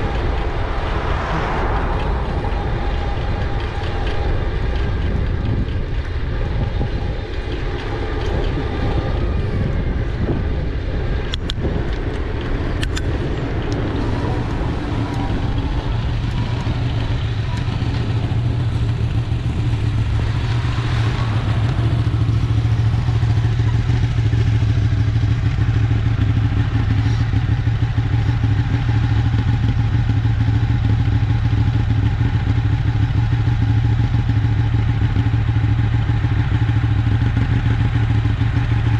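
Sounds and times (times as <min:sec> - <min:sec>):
e-bike riding rumble: 0:00.0 - 0:38.9
low hum: 0:00.0 - 0:38.9.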